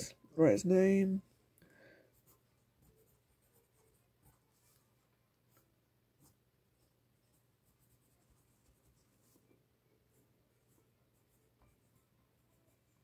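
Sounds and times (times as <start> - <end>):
pencil scratching on paper: 2.1 - 13.0.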